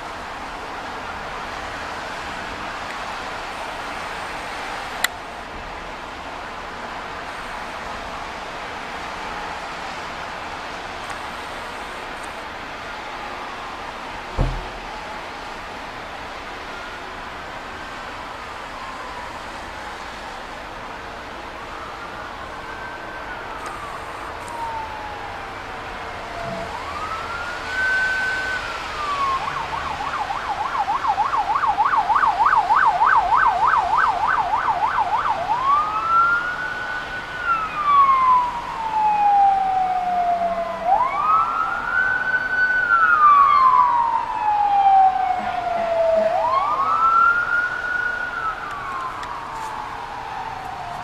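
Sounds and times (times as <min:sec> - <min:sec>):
emergency vehicle siren: 0:00.0 - 0:51.0.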